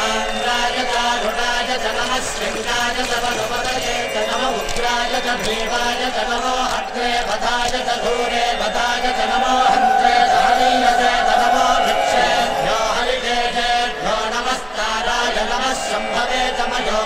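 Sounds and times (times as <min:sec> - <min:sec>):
group singing a chant: 0:00.0 - 0:17.0.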